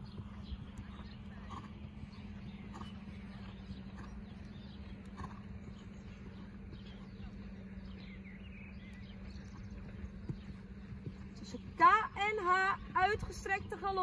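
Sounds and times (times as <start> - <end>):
bird chirping: 0.0 - 14.0
steady low hum: 0.0 - 14.0.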